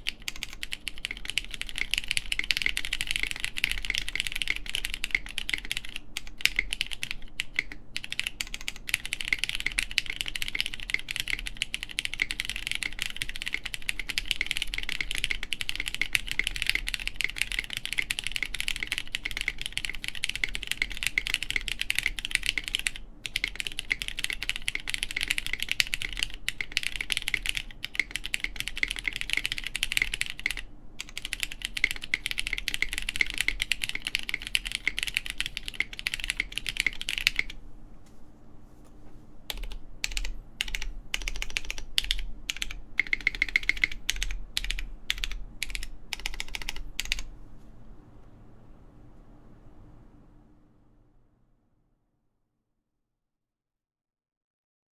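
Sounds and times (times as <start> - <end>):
mechanical keyboard typing: 0.0 - 37.6, 39.5 - 47.3.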